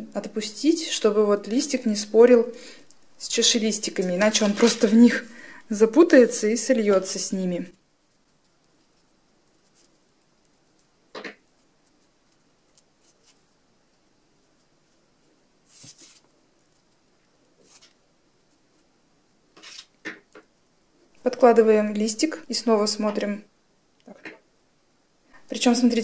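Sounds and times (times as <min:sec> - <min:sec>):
beaded leaves and wire rustling: 0:00.4 - 0:23.1.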